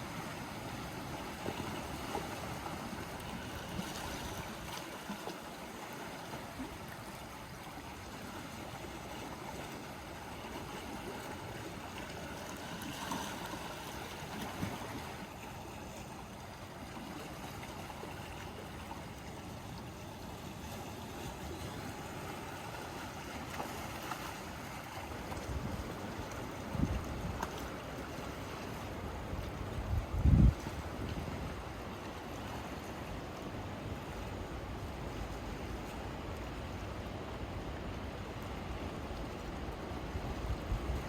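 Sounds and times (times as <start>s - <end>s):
sea waves washing on shore: 0.0s - 41.0s.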